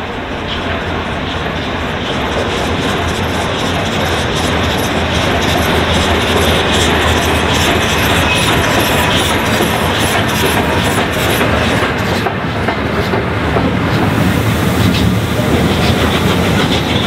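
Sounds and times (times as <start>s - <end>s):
steam locomotive passing: 0.0s - 17.0s
wheels clattering on rails: 0.0s - 17.0s.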